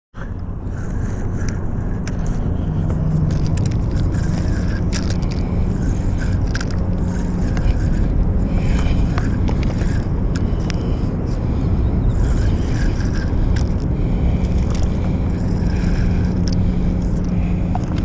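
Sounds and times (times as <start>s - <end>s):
low rumble of road traffic: 0.1s - 18.0s
fishing reel clicking: 0.7s - 18.0s.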